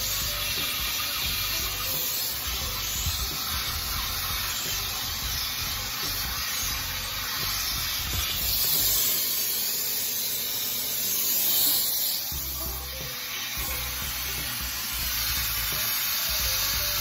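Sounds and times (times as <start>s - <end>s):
shop vacuum running: 0.0s - 17.0s.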